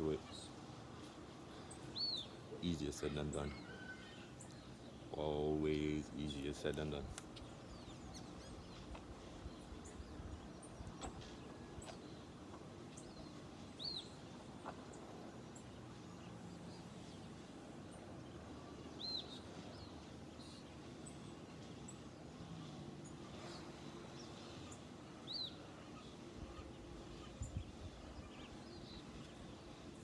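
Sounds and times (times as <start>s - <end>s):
low hum and hiss: 0.0s - 30.0s.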